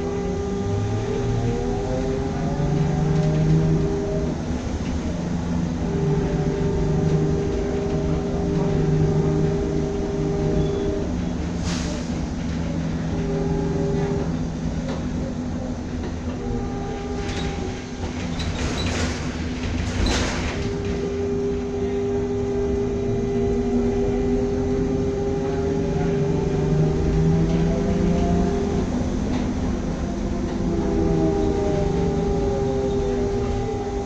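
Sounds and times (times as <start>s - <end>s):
electric drive whining: 0.0s - 11.6s, 12.2s - 18.3s, 20.5s - 34.0s
road rumble: 0.0s - 34.0s.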